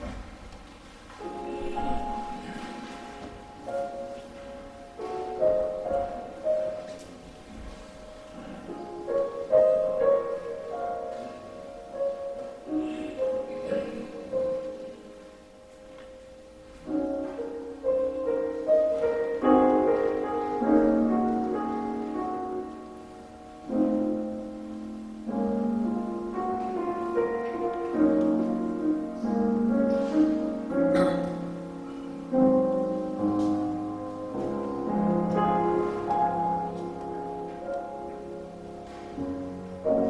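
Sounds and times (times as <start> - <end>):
piano playing held chords: 0.0 - 40.0.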